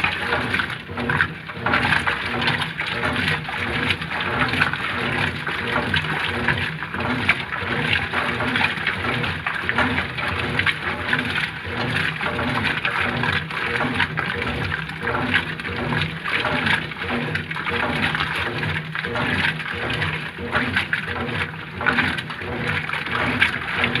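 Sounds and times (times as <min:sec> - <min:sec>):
washing machine motor hum: 0:00.0 - 0:24.0
water and clothes sloshing: 0:00.0 - 0:24.0.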